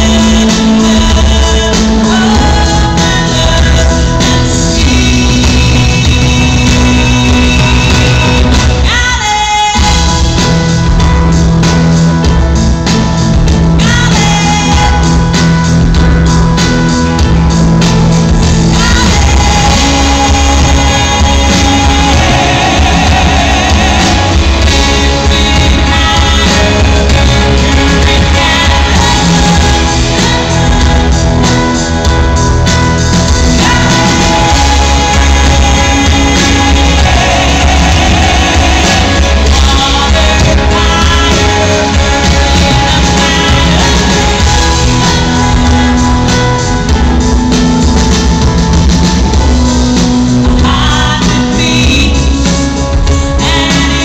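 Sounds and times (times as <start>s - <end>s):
woman singing: 0.0s - 10.6s, 13.5s - 16.0s, 18.4s - 32.3s, 32.9s - 47.0s, 50.4s - 54.0s
live country-pop rock band: 0.0s - 54.0s.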